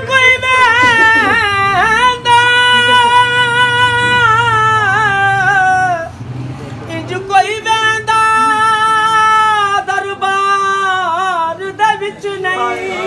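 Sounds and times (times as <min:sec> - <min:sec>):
man singing unaccompanied: 0:00.0 - 0:06.2, 0:06.9 - 0:13.0.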